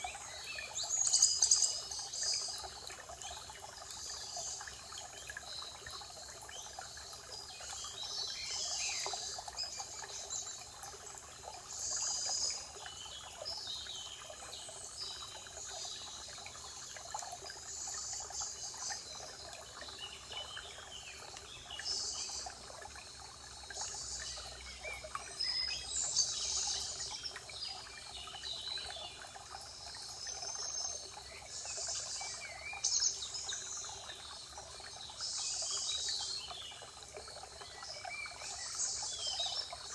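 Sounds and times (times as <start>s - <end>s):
songbirds singing and chirping: 0.0s - 39.9s
trickle of running water: 0.0s - 39.9s.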